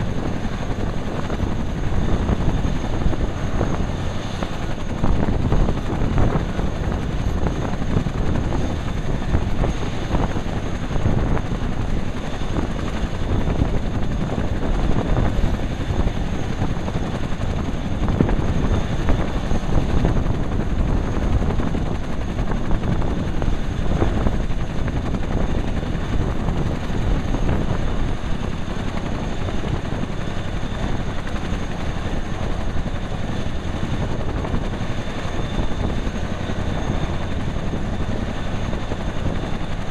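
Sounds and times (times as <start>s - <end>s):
helicopter rotor rumble: 0.0s - 39.9s
turbine whine: 0.0s - 39.9s.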